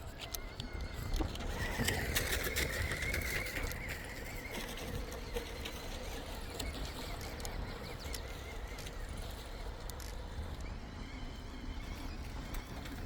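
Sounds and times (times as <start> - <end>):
clicks and clatters over rough ground: 0.0 - 13.0.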